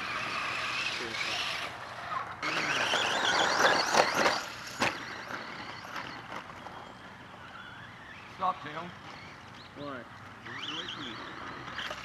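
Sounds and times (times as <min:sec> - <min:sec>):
rc truck motor whine: 0:00.0 - 0:12.0
tyres on dirt: 0:00.0 - 0:12.0.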